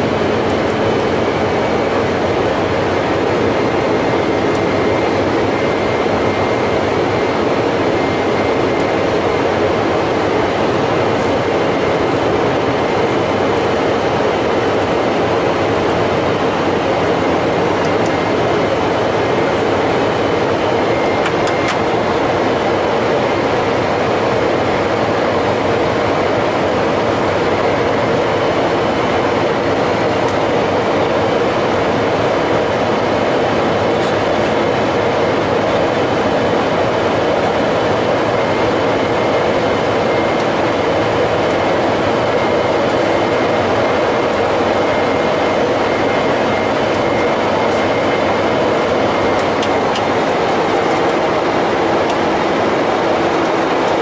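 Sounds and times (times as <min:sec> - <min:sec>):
jet airliner engine and airflow: 0:00.0 - 0:54.0.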